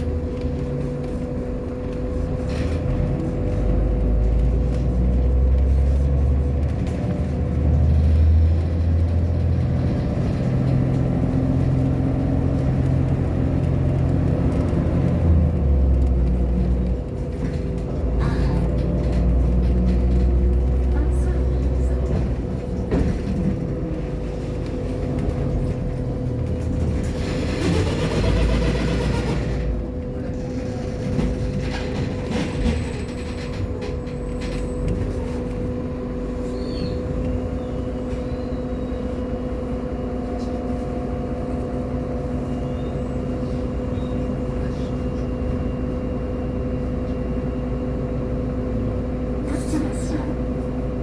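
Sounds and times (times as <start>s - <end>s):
bus engine humming and rumbling: 0.0s - 51.0s.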